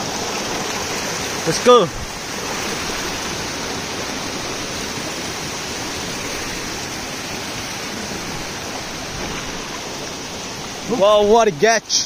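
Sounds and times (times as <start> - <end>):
mountain stream rushing over boulders: 0.0 - 12.0.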